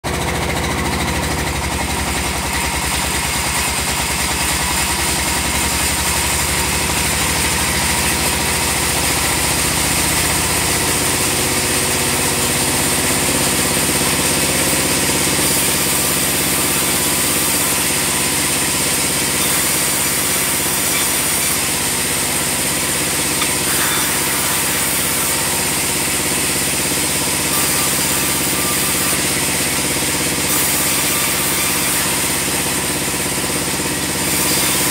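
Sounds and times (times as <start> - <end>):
band sawmill drone: 0.0 - 34.9.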